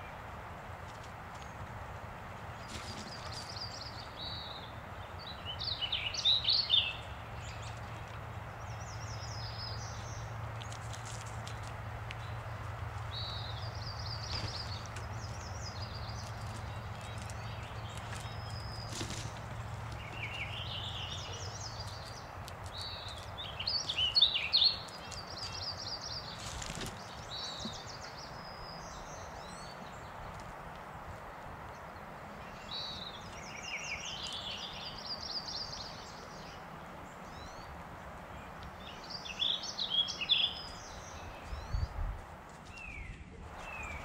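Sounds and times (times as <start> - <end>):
songbirds singing: 0.0 - 44.0
steady outdoor hiss: 0.0 - 44.0.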